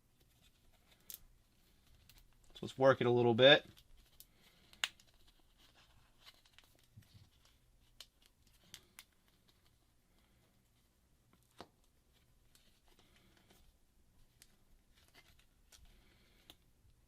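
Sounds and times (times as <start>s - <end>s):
tape crinkling: 0.1s - 2.7s, 3.6s - 9.8s, 11.3s - 16.7s.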